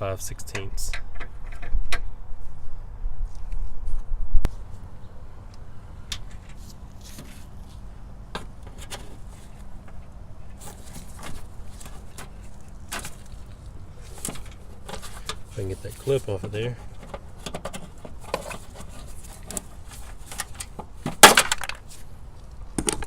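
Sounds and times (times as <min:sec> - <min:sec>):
low steady background hum: 0:00.0 - 0:23.0.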